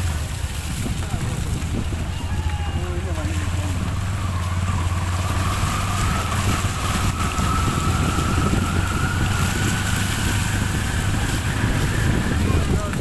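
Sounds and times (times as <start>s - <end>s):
auto-rickshaw engine humming: 0.0s - 13.0s
rushing water noise: 0.0s - 13.0s.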